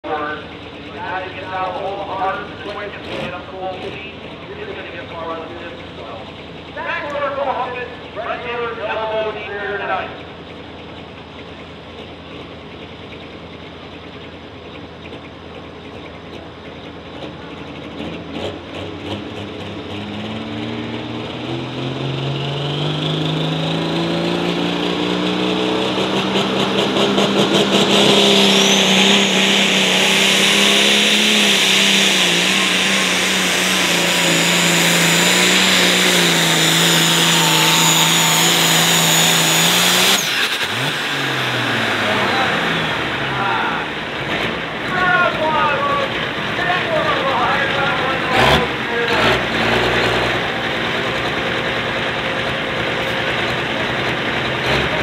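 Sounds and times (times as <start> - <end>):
tractor engine revving: 0.0 - 55.0.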